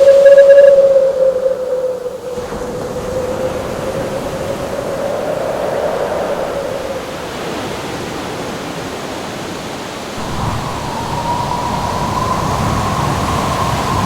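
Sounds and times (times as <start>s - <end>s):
whistling howl: 0.0s - 7.5s, 10.2s - 14.0s
howling wind: 0.0s - 14.0s.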